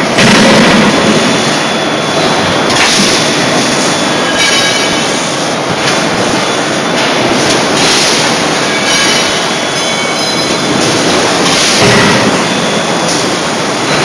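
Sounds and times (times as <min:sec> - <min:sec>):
industrial machinery roar: 0:00.0 - 0:14.0.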